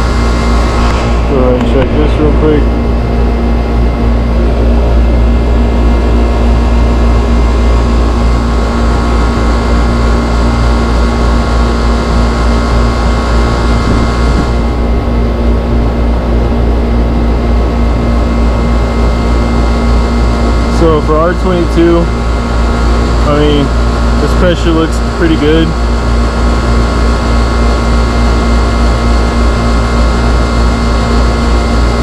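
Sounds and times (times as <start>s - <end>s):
air conditioner compressor hum: 0.0s - 32.0s
condenser fan air noise: 0.0s - 32.0s.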